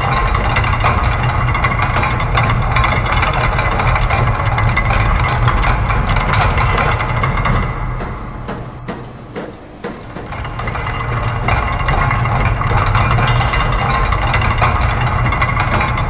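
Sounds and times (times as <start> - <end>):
low machine hum: 0.0 - 16.0
machine clicking and ticking: 0.0 - 16.0.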